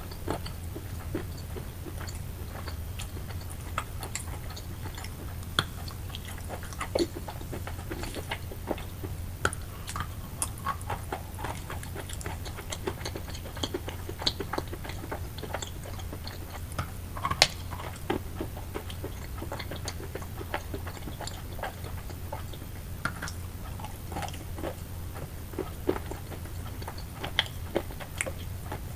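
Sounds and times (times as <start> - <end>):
chewing chalk: 0.0 - 28.9
steady low hum: 0.0 - 28.9.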